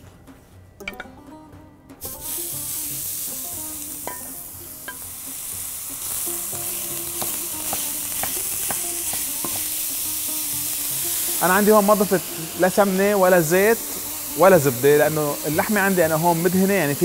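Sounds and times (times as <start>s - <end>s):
meat sizzling in a frying pan: 2.0s - 17.0s.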